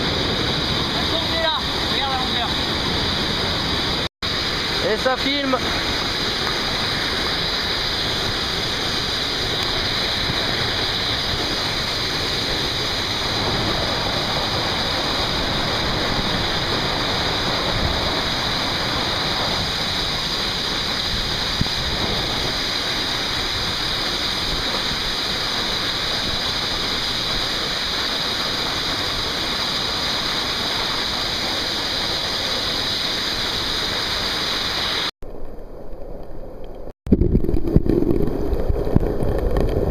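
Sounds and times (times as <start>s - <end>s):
waterfall roaring: 0.0s - 35.1s.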